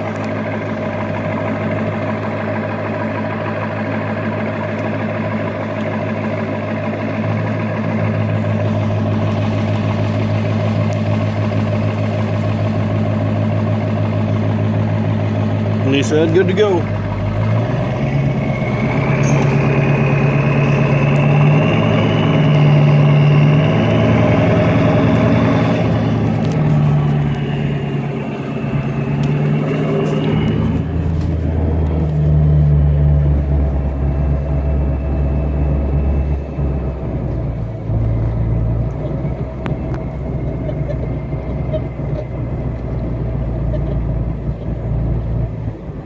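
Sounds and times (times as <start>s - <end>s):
engine whine: 0.0s - 46.0s
pickup truck engine pulling under load: 0.0s - 46.0s.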